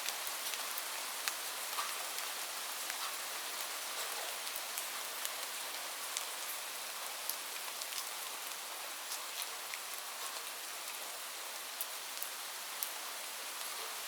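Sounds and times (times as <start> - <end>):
raindrops ticking on a surface: 0.0 - 14.0.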